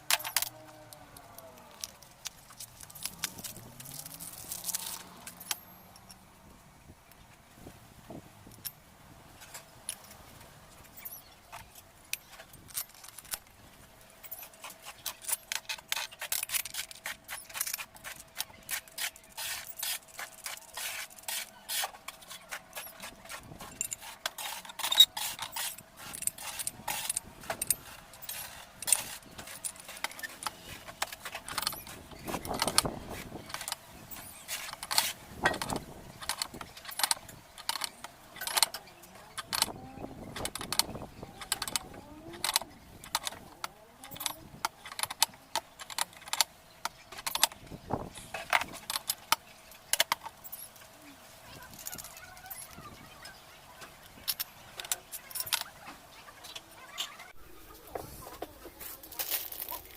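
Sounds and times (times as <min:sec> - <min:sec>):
metal parts and tools clinking: 0:00.0 - 0:06.3, 0:08.4 - 0:59.9.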